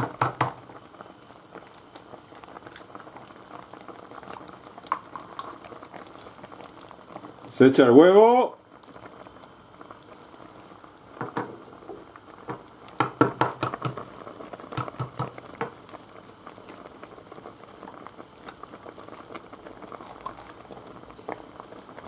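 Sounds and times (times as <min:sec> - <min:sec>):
soup boiling with popping bubbles: 0:00.0 - 0:22.0.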